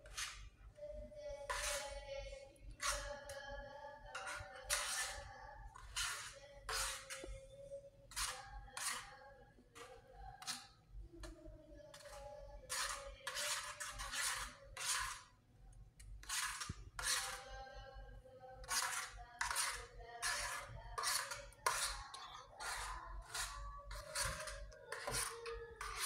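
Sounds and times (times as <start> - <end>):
fork beating eggs in metal bowl: 0.0 - 0.5, 1.5 - 15.4, 16.0 - 18.0, 18.6 - 26.0.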